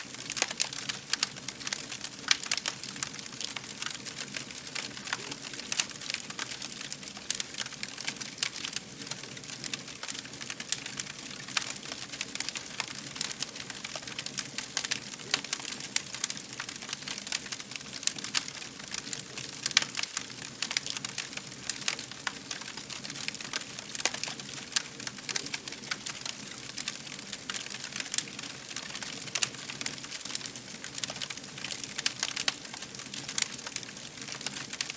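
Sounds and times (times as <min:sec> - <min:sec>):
fire crackling: 0:00.0 - 0:34.9.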